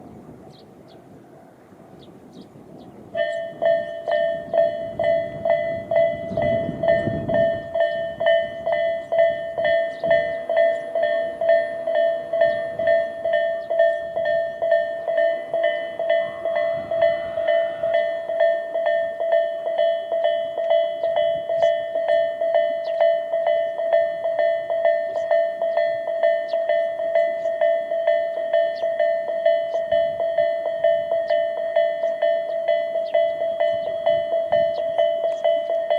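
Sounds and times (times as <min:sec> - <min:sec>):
electronic level-crossing bell: 0:03.1 - 0:35.9.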